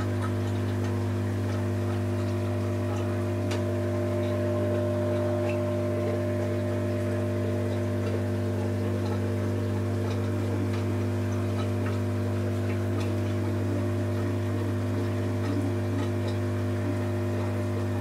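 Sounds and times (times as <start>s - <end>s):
aquarium air pump humming: 0.0s - 18.0s.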